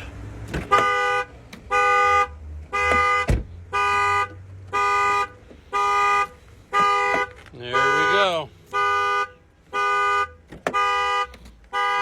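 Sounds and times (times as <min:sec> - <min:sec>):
car horn honking: 0:00.6 - 0:12.0.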